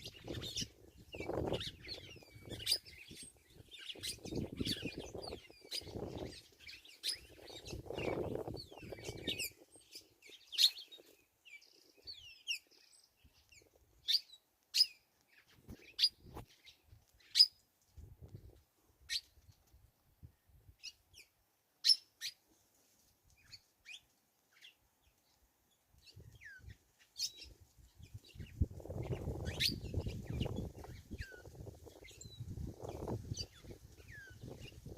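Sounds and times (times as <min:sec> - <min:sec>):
small bird chirping: 0:00.0 - 0:22.5, 0:23.3 - 0:34.9.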